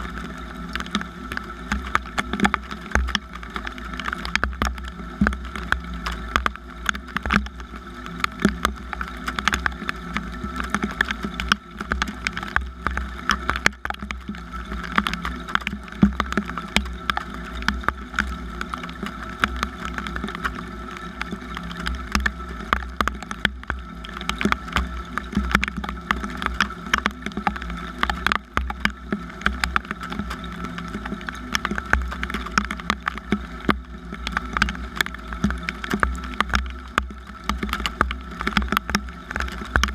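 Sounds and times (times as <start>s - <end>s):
rain drops falling: 0.0s - 39.9s.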